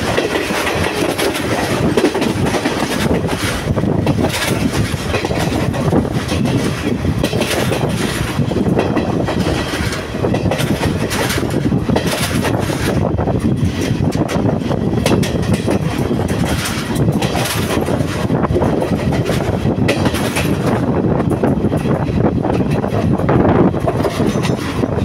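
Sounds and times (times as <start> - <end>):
clacks over rail joints: 0.0 - 25.0
train wheels rumbling on rails: 0.0 - 25.0.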